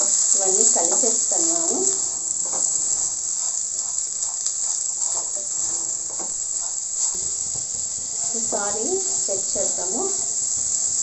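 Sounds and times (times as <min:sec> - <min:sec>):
vegetables sizzling in oil: 0:00.0 - 0:11.0
wooden spatula scraping pan: 0:00.6 - 0:10.0.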